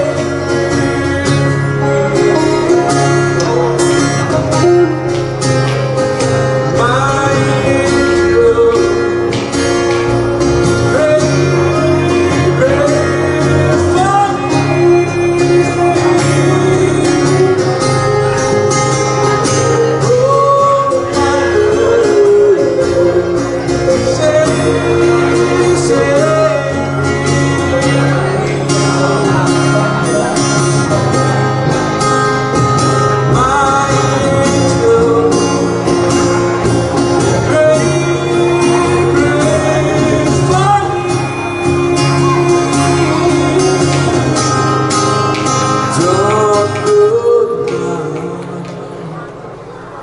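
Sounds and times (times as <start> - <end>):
man singing: 0.0 - 49.2
electric bass: 0.0 - 50.0
strummed acoustic guitar: 0.0 - 50.0.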